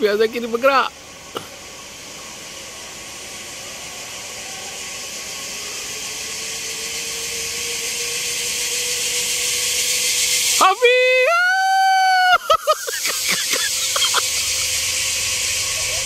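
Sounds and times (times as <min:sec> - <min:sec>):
zipline trolley whirring on cable: 0:00.0 - 0:16.0.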